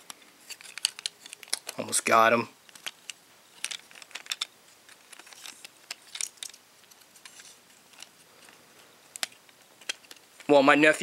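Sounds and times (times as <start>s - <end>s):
plastic toy parts clicking: 0.4s - 1.8s, 2.6s - 10.5s.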